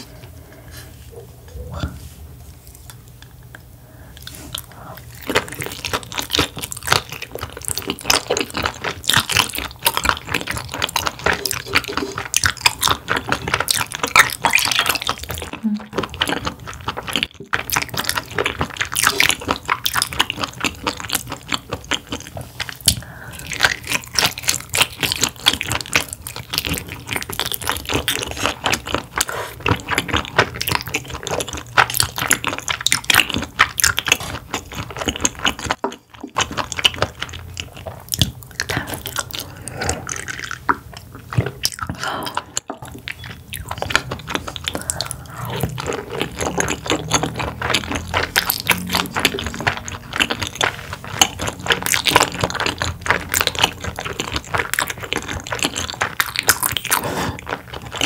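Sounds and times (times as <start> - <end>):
wet chewing mouth sounds: 0.0 - 58.0.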